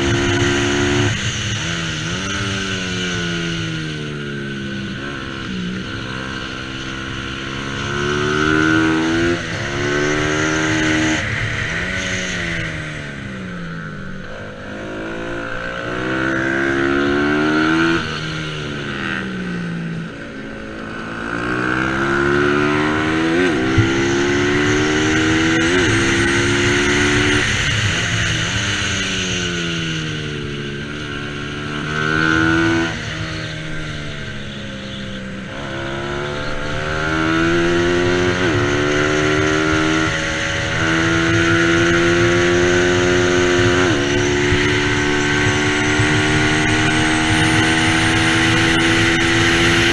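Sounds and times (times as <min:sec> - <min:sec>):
racing motorcycle engine: 0:00.0 - 0:49.9.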